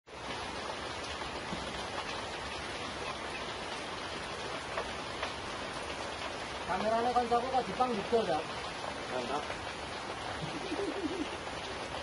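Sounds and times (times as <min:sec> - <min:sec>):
steady rain: 0:00.1 - 0:12.0.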